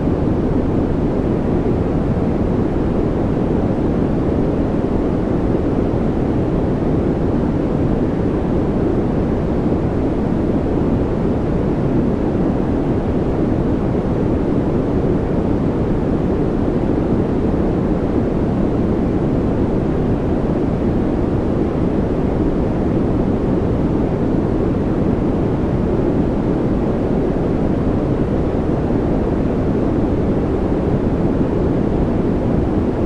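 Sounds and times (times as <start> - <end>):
deep muffled white noise: 0.0 - 33.0.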